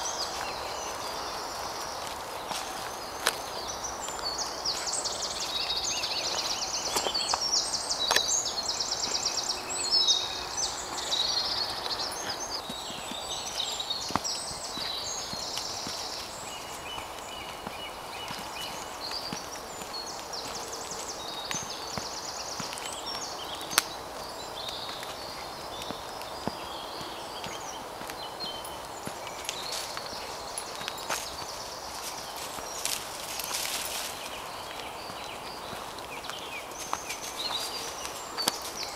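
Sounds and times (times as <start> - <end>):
footsteps on leafy path: 0.0 - 38.9
songbirds singing: 0.0 - 38.9.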